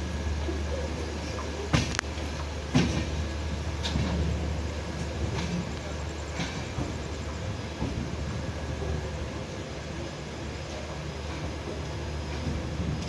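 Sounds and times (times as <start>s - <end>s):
train rumbling along rails: 0.0s - 13.0s.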